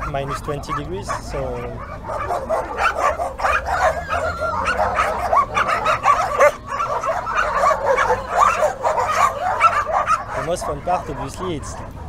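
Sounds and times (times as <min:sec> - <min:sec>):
dogs barking and yelping: 0:00.0 - 0:12.0.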